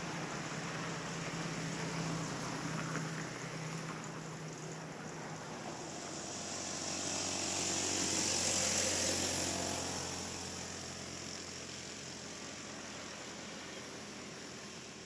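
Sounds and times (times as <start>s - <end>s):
vehicle passing by: 0.0s - 14.8s.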